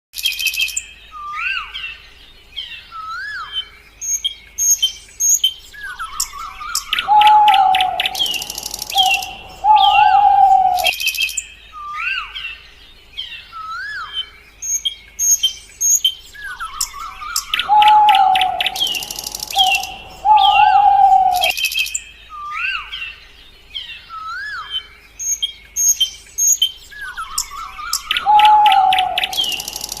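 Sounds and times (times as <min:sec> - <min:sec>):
songbirds chirping and whistling: 0:00.2 - 0:30.0.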